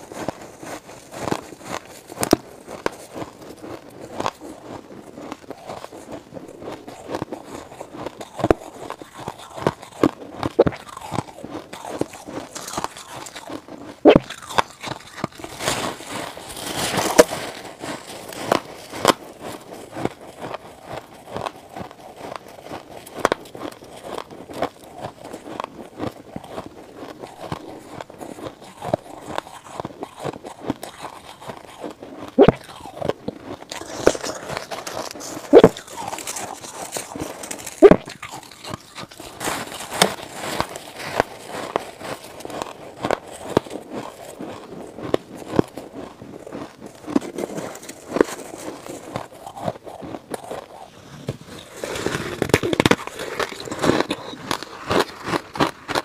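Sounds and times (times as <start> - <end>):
crunching ice chunks: 0.0 - 56.0.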